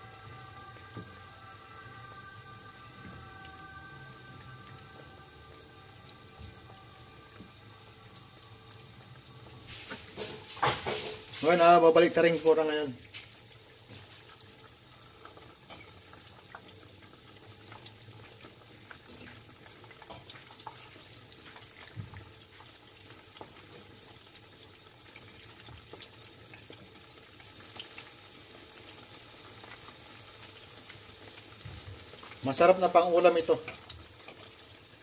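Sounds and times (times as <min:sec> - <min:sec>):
batter frying in oil: 0:00.0 - 0:35.0.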